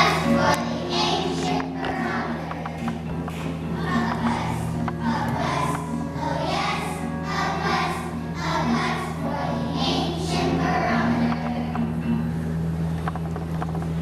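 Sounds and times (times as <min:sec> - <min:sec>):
children singing together: 0:00.0 - 0:12.1
steady low hum: 0:00.0 - 0:14.0.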